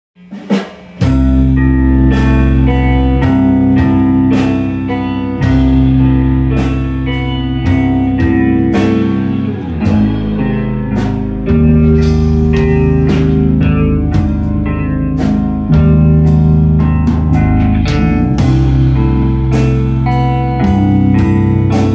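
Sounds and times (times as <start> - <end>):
drum kit with cymbal hits: 0.2 - 21.9
electric guitar chords: 0.4 - 21.9.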